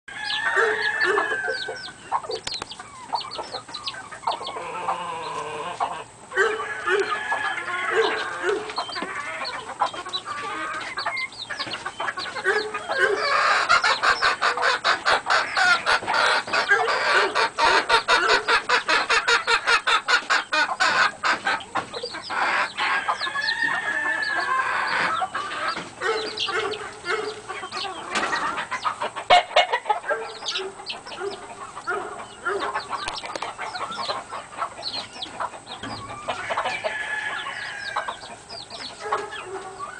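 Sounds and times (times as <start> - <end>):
hens clucking and squawking: 0.1 - 39.9.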